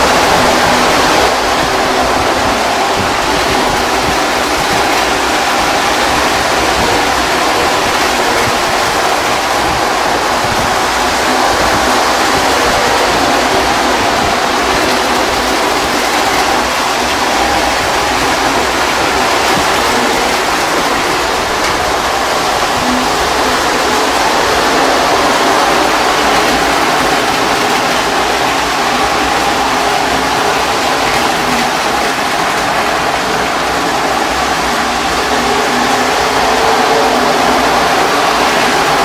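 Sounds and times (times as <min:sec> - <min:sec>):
model trains rumbling on track: 0:00.0 - 0:39.0.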